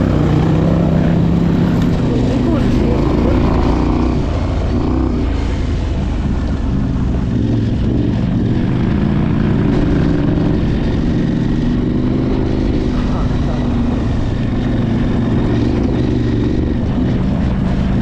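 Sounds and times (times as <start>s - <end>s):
motorcycle engine running: 0.0s - 18.0s
wind noise: 0.0s - 18.0s.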